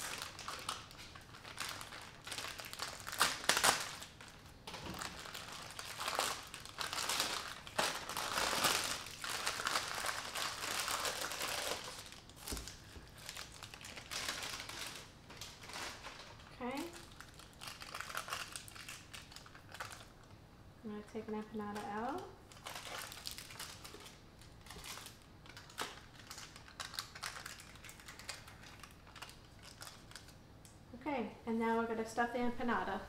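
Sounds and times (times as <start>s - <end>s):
plastic wrapper crinkling: 0.0s - 20.3s, 21.6s - 30.8s.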